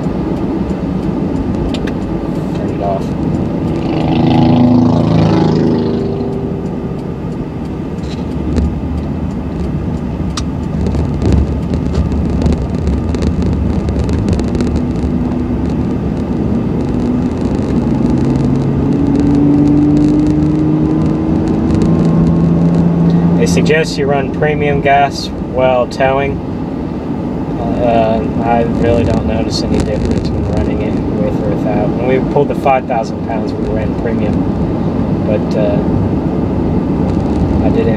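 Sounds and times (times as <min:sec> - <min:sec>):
truck engine accelerating: 0:00.0 - 0:37.9
tyre noise on road: 0:00.0 - 0:37.9.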